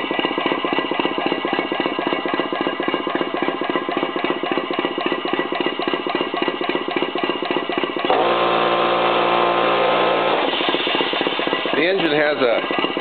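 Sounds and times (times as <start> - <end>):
loud steady hum: 0.0 - 13.0
steam engine exhaust chuffing: 0.0 - 13.0.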